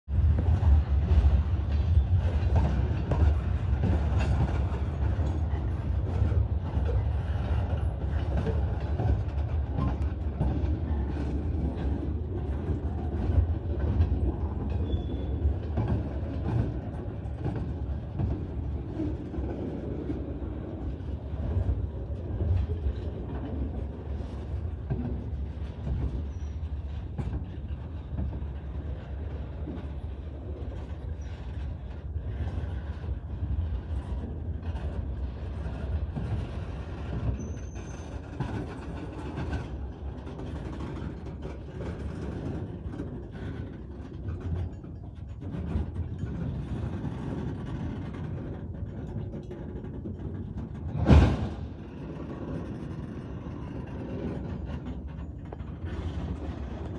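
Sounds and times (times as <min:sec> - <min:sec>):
freight train rumbling past: 0:00.1 - 0:44.8, 0:45.8 - 0:56.9.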